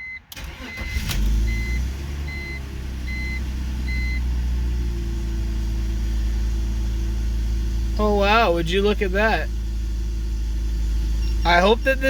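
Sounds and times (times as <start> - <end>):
car engine starting and idling: 0.0 - 12.0.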